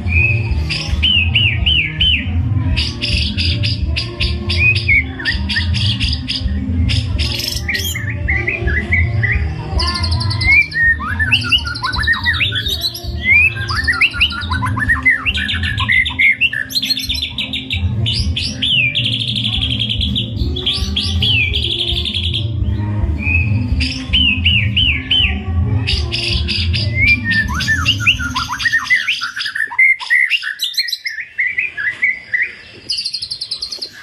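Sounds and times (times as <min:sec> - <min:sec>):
low background music: 0:00.0 - 0:29.2
songbird singing whistles and trills: 0:00.0 - 0:34.0.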